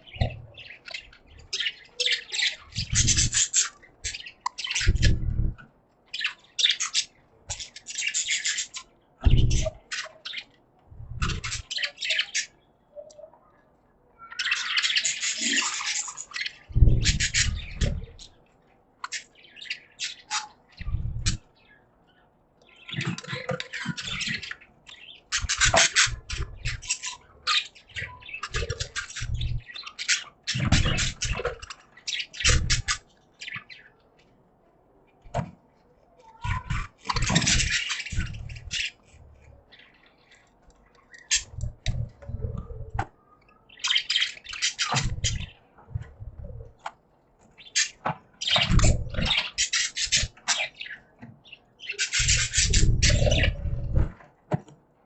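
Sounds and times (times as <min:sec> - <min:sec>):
budgies chattering and chirping: 0:00.0 - 0:54.3.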